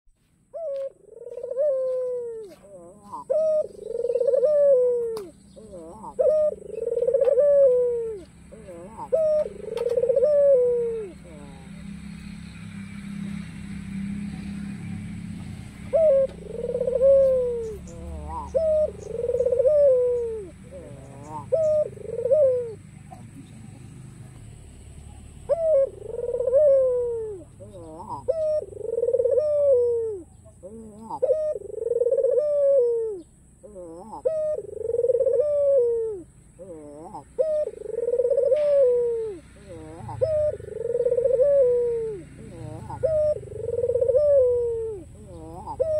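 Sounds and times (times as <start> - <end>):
dove cooing: 0.5 - 45.9.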